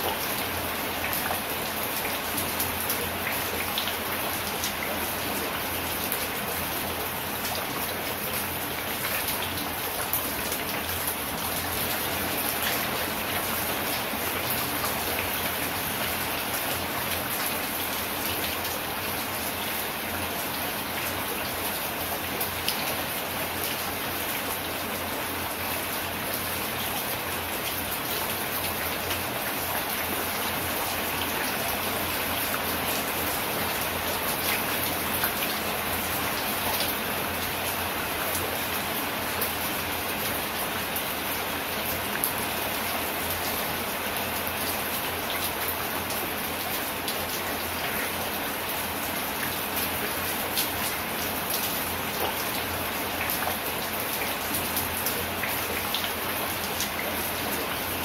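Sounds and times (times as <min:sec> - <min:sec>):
rain falling on leafy plants: 0:00.0 - 0:58.0.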